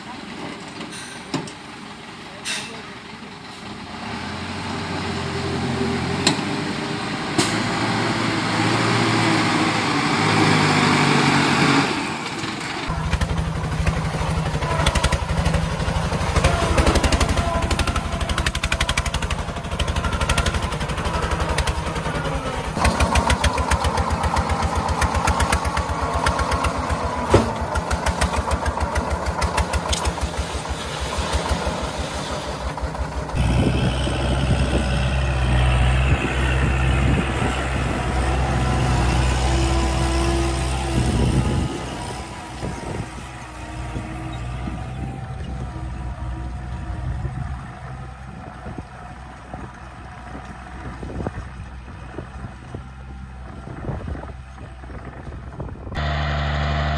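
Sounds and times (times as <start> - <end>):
walking tractor engine running: 0.0 - 56.9.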